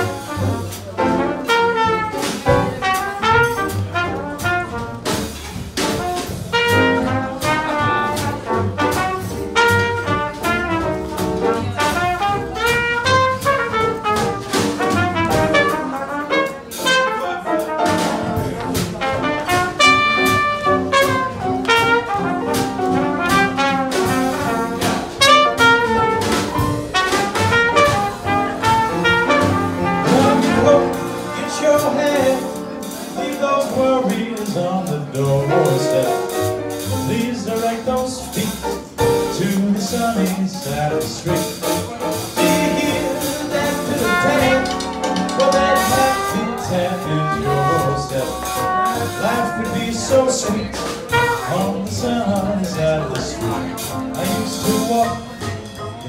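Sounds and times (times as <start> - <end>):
trumpet lead: 0.0 - 55.7
jazz band playing swing: 0.0 - 56.0.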